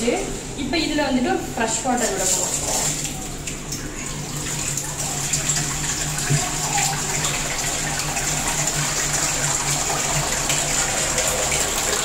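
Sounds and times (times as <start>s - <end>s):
water running from hose into tank: 1.7s - 12.0s.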